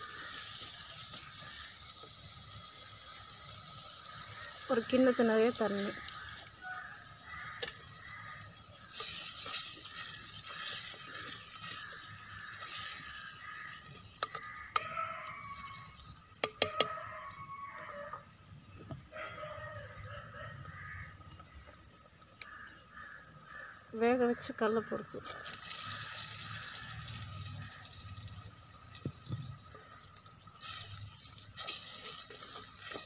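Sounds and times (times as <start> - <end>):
wooden spatula stirring: 0.0 - 19.1, 25.2 - 33.0
food sizzling: 0.0 - 33.0
water pouring into a pot: 0.0 - 33.0.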